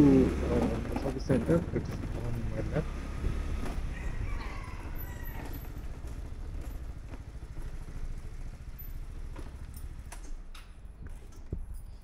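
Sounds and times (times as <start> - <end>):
scooter engine running: 0.0 - 11.6.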